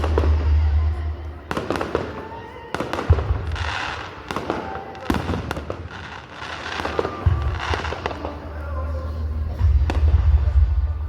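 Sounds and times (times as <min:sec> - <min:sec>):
fireworks banging: 0:00.0 - 0:11.0
fireworks crackling: 0:00.0 - 0:11.0.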